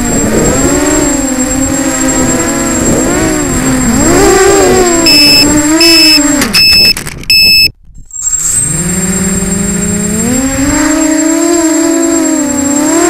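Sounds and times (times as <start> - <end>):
quadcopter motors humming: 0.0 - 13.0
thin high whine: 0.0 - 13.0.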